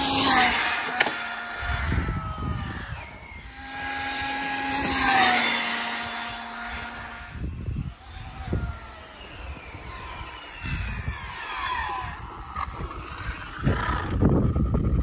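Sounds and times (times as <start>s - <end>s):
rc car motor whining: 0.0s - 15.0s.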